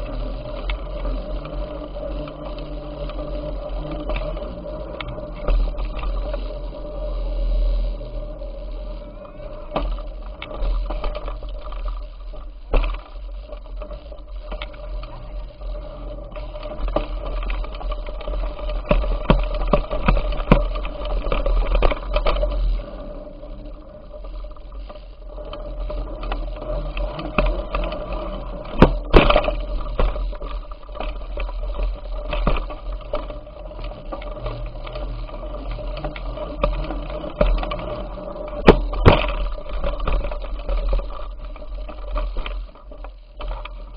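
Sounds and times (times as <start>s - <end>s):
bicycle rattles and clicks: 0.0s - 43.9s
faint steady hum: 0.0s - 43.9s
rolling rumble: 0.0s - 43.9s.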